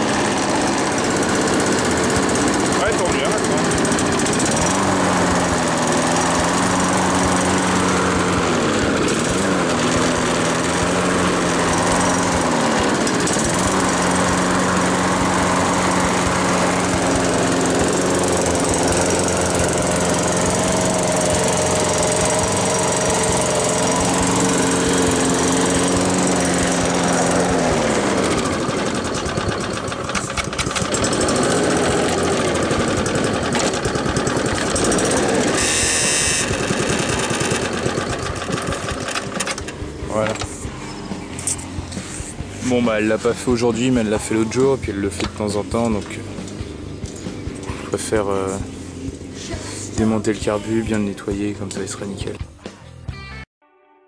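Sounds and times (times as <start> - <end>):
lawn mower engine running: 0.0 - 52.4.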